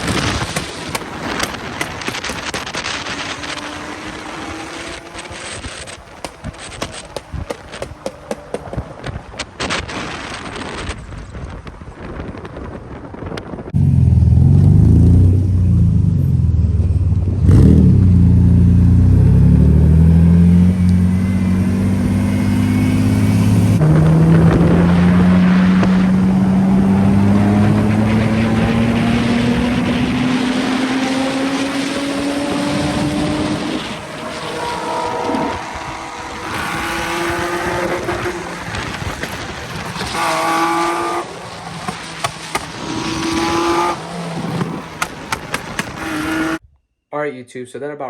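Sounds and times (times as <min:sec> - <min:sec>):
car engine accelerating: 0:00.0 - 0:10.4, 0:13.7 - 0:46.6.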